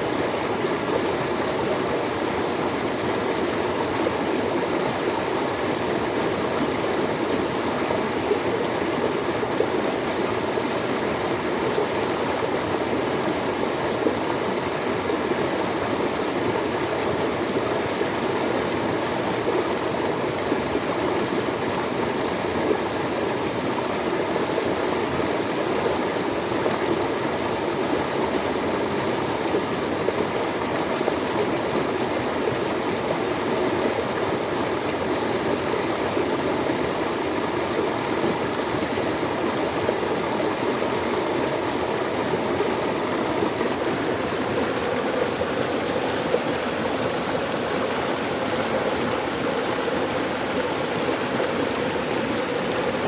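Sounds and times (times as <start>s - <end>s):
running water: 0.0s - 53.0s.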